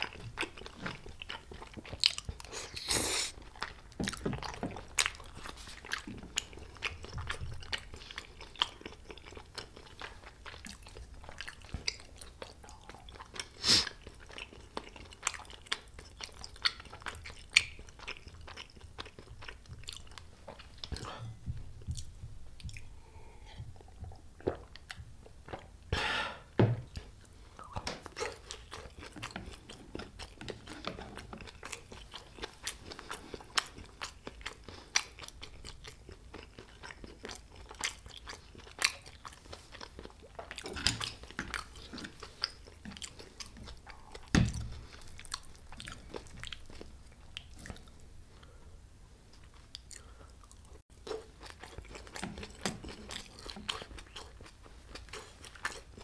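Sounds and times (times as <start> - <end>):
close-miked chewing and biting: 0.0 - 23.0, 26.9 - 48.5, 49.3 - 56.0.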